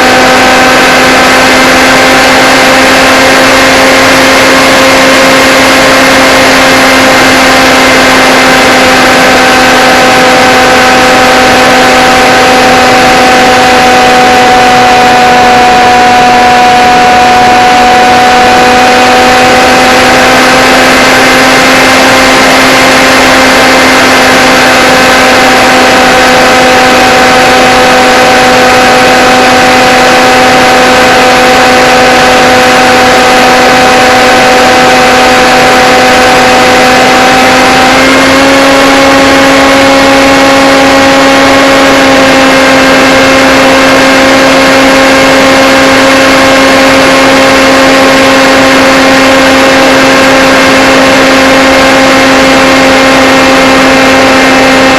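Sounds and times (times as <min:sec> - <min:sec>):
quadcopter motors whining: 0:00.0 - 0:54.9.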